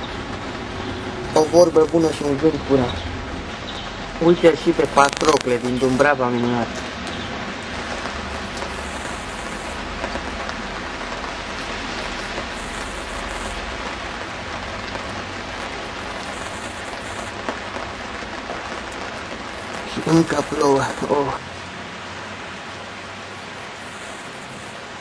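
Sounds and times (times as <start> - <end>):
rain falling on wet ground: 0.0 - 25.0.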